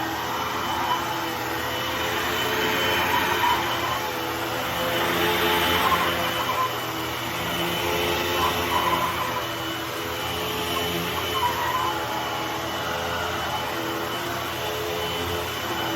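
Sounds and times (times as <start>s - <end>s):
wheels squeaking: 0.0s - 14.1s
vacuum cleaner droning: 0.0s - 15.9s.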